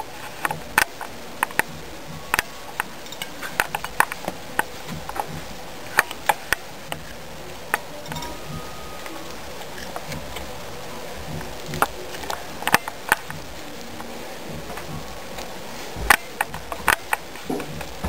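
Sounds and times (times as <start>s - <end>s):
rodent clicking and tapping: 0.2s - 10.6s, 11.2s - 18.0s.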